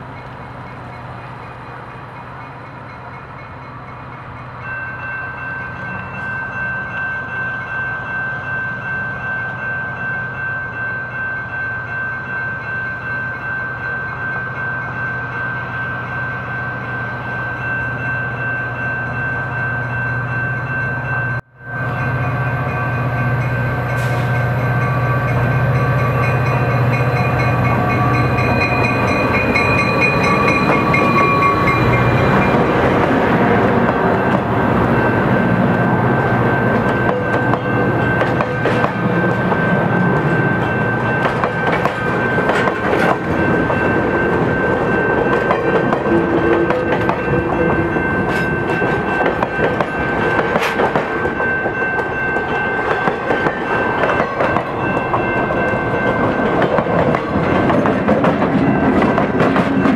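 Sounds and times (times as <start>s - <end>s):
diesel locomotive engine drone: 0.0s - 59.9s
high ring from wheels and rails: 0.0s - 59.9s.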